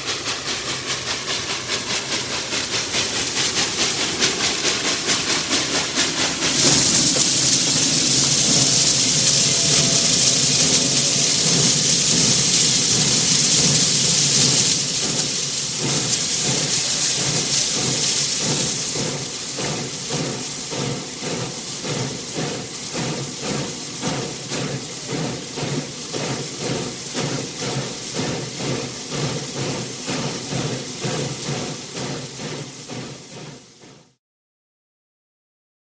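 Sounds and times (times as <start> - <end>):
steady rhythmic pulsing: 0.0 - 34.0
steam locomotive hissing steam: 0.0 - 34.2.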